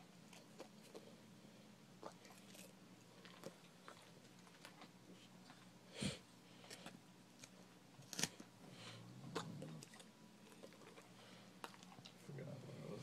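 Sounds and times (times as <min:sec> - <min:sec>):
dog chewing lettuce: 0:00.0 - 0:05.8, 0:06.5 - 0:13.0.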